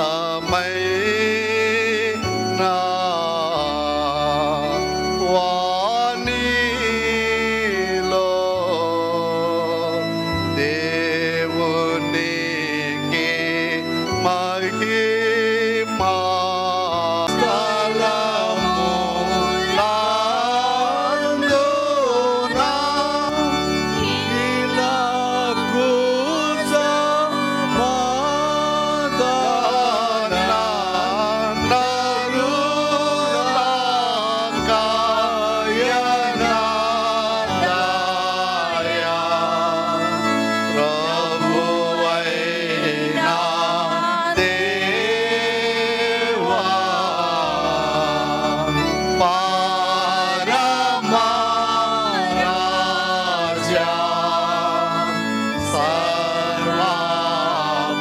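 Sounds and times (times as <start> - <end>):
person singing devotional song: 0.0 - 58.0
reedy keyboard chords: 0.0 - 58.0.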